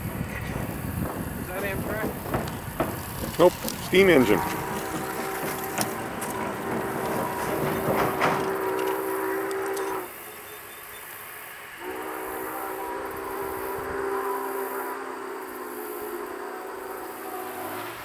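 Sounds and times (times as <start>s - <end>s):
distant steam locomotive whistle: 0.0s - 18.0s.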